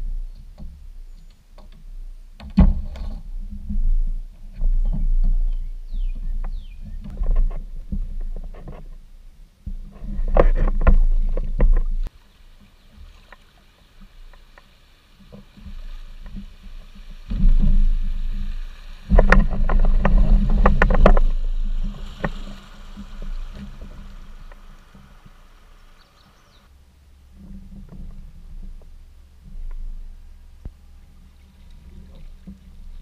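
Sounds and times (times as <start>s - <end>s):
kayak hull rumbling and knocking: 0.0s - 33.0s
water and paddle sounds: 0.0s - 33.0s.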